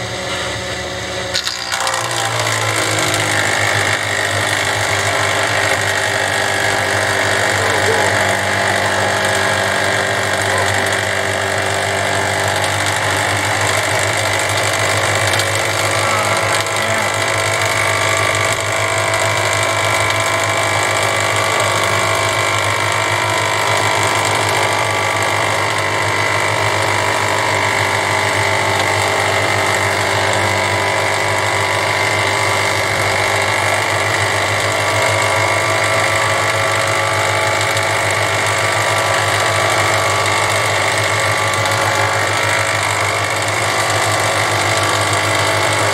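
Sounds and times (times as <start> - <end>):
thickness planer planing wood: 0.0 - 45.9.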